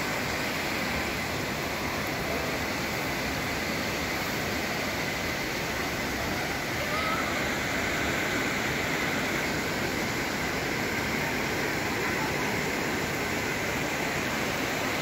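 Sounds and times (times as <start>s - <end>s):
rushing floodwater: 0.0s - 15.0s.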